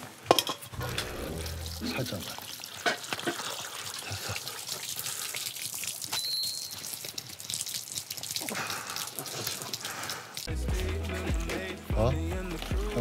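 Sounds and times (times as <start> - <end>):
water splashing and dripping: 0.2 - 13.0.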